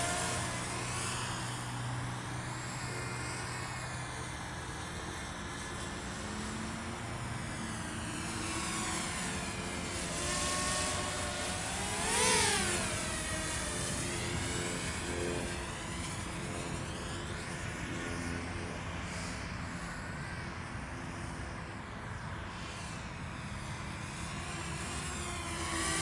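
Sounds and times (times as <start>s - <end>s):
quadcopter propellers whining: 0.0s - 26.0s.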